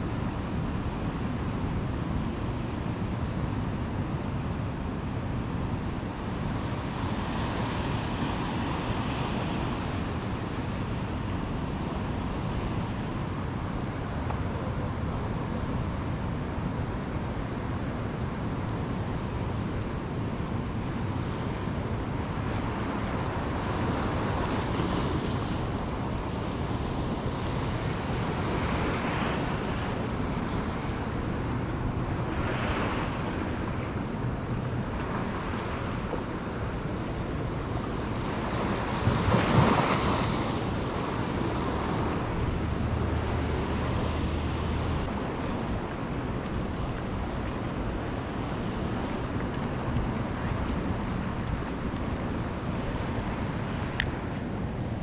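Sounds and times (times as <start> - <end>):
surf: 0.0 - 55.0
wind on microphone: 0.0 - 55.0.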